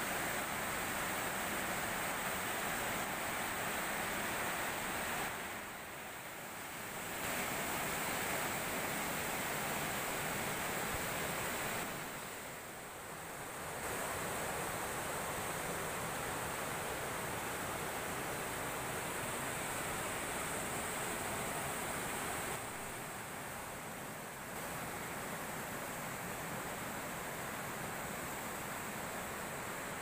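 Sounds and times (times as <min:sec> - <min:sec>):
river water rushing over weir: 0:00.0 - 0:30.0.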